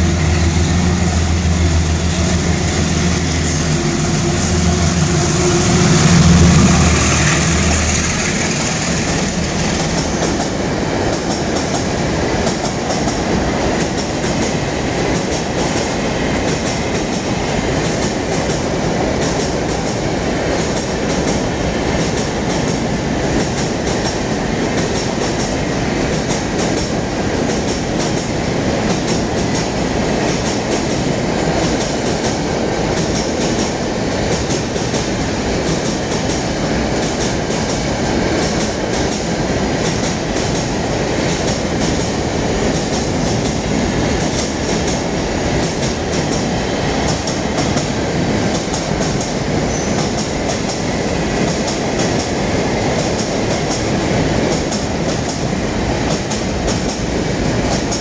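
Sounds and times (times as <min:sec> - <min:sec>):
train wheels rumbling on rails: 0:00.0 - 0:58.0
clickety-clack over rail joints: 0:06.1 - 0:58.0.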